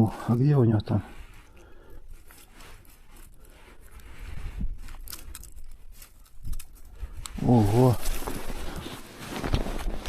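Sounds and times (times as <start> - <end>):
rustling handling noises: 1.1 - 10.0.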